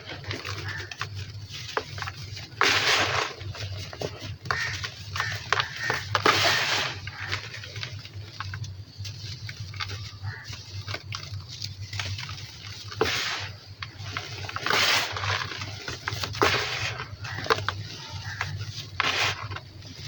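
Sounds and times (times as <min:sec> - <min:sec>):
dry sand crumbling: 0:00.0 - 0:20.0.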